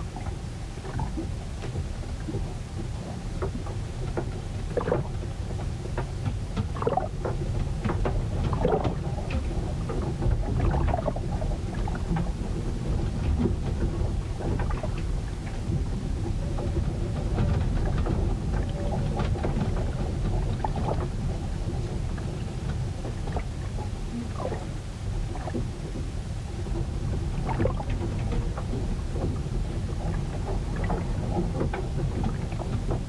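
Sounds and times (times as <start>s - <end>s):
steady low rumble: 0.0s - 33.0s
water splashing against ship: 0.0s - 33.0s.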